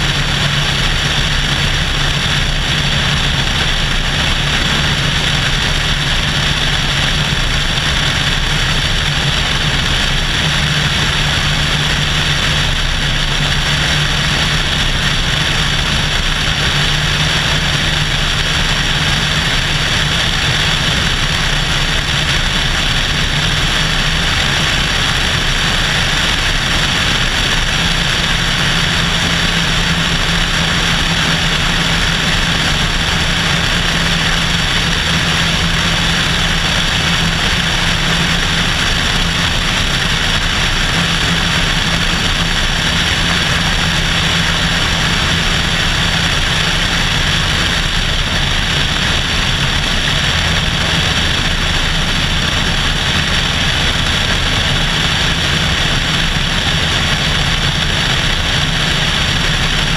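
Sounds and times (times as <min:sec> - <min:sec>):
airflow rush: 0:00.0 - 0:59.9
airplane engine droning: 0:00.0 - 0:59.9.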